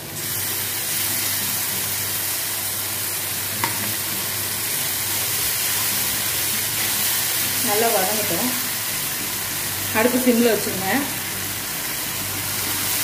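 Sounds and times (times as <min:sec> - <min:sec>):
onions and sauce sizzling in a wok: 0:00.0 - 0:13.0.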